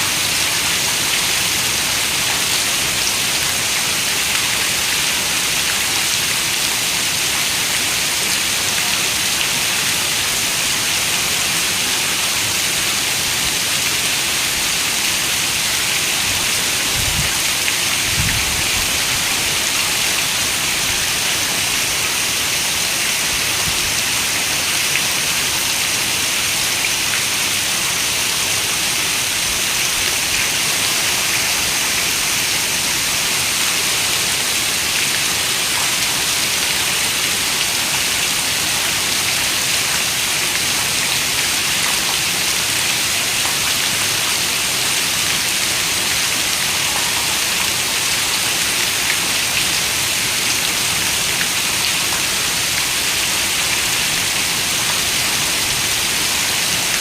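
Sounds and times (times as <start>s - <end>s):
rain pattering: 0.1s - 57.0s.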